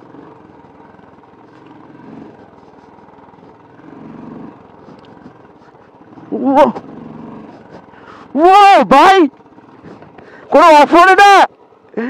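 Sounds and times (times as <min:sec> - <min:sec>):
motorcycle engine running slowly: 0:00.0 - 0:12.0.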